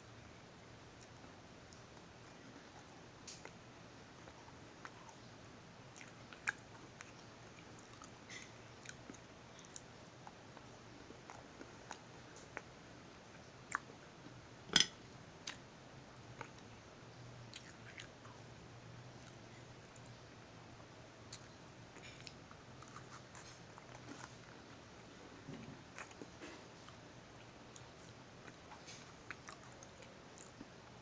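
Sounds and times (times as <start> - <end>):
chewing and crunching cookie: 0.9 - 14.4, 16.3 - 16.8, 17.4 - 31.0.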